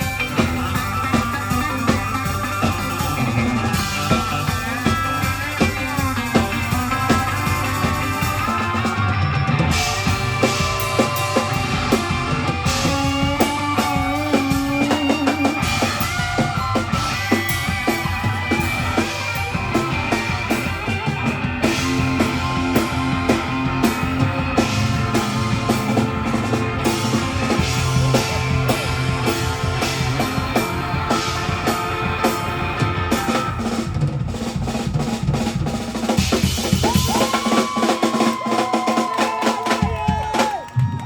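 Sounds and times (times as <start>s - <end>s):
drum kit kick and snare: 0.0s - 41.0s
live country band playing: 0.0s - 41.0s.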